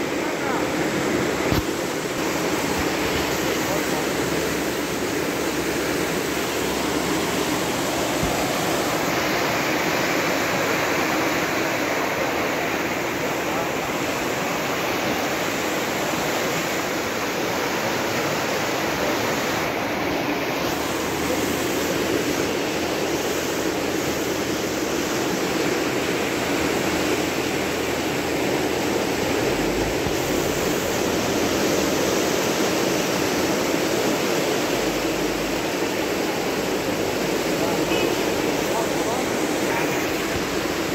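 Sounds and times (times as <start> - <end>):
flood water rushing: 0.0 - 40.9.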